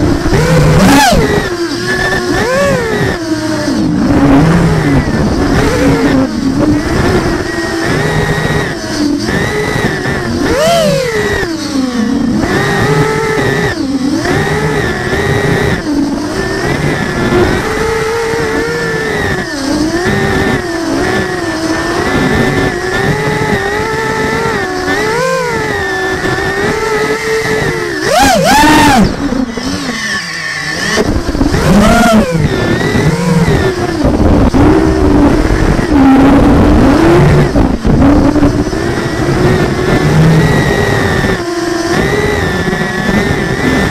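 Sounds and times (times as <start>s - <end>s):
drone propellers whining: 0.0s - 43.9s
rough rushing noise: 0.0s - 43.9s.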